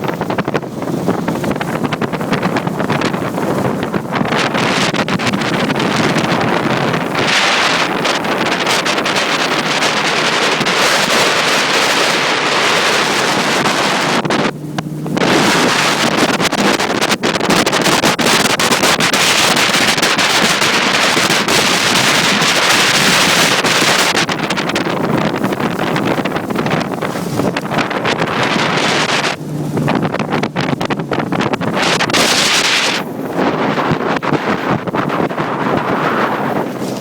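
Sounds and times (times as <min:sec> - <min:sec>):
boat motor humming: 0:00.0 - 0:37.0
wind buffeting microphone: 0:00.0 - 0:37.0.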